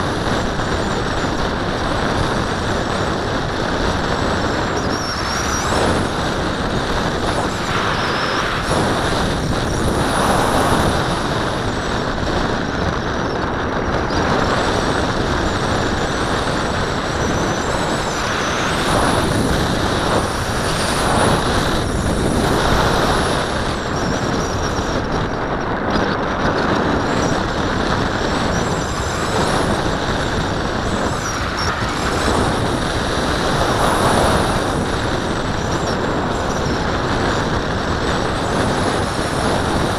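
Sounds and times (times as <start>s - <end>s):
wind rushing past microphone: 0.0s - 39.9s.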